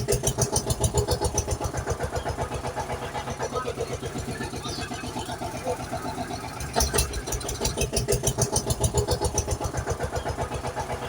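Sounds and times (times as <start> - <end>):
vehicle engine chugging: 0.0 - 11.0.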